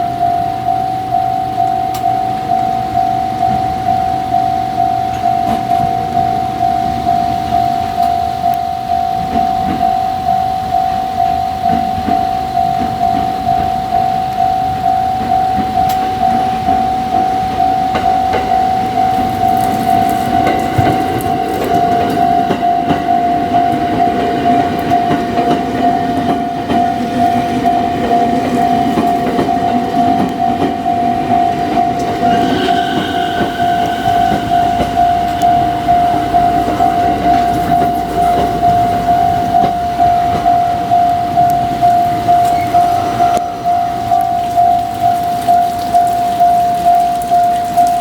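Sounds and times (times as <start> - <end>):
electric train rumble: 0.0 - 48.0
level-crossing alarm ringing: 0.0 - 48.0.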